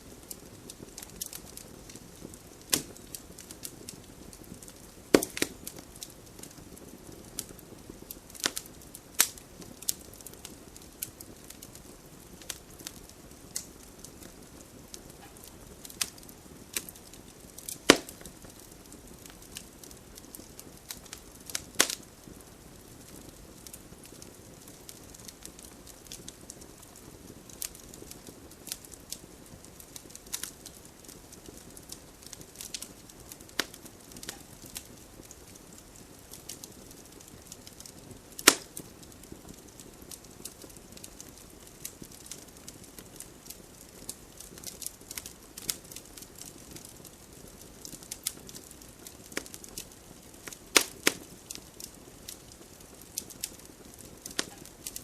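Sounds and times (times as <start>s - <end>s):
campfire flames hissing: 0.0s - 55.0s
fire crackles and pops: 0.0s - 55.0s.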